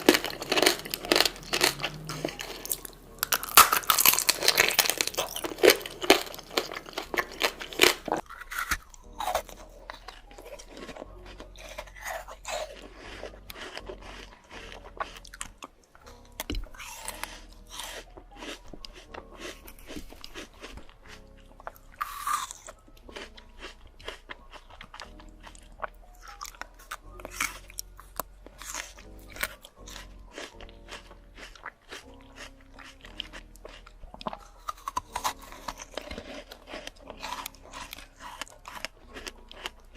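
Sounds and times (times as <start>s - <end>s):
chewing crunchy fruit: 0.0s - 39.9s
soft background music: 0.0s - 39.9s.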